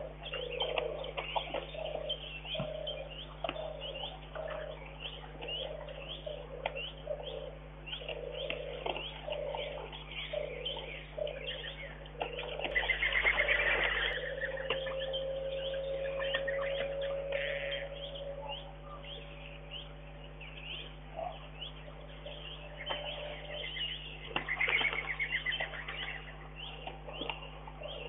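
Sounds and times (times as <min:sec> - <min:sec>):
low cooing bird calls: 0:00.0 - 0:28.0
songbirds chirping: 0:00.0 - 0:28.0
steady low hum: 0:00.0 - 0:28.0.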